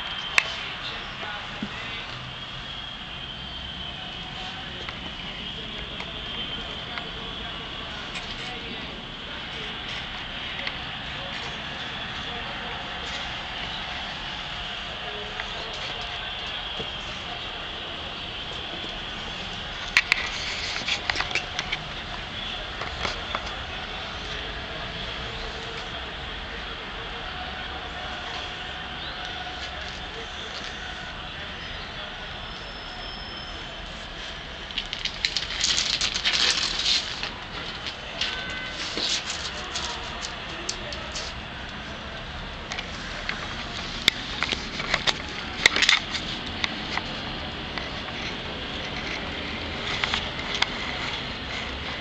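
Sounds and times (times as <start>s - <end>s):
street traffic hum: 0.0s - 52.0s.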